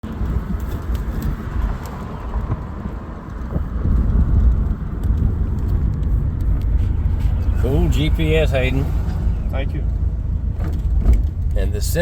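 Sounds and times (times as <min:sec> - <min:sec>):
car engine rumble: 0:00.0 - 0:12.0
road and wind noise: 0:00.0 - 0:12.0.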